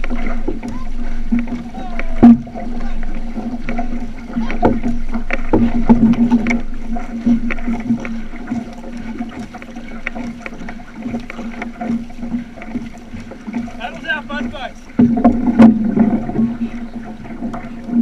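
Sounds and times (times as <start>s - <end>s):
paddle strokes: 0.0s - 18.0s
water splashing against hull: 0.0s - 18.0s.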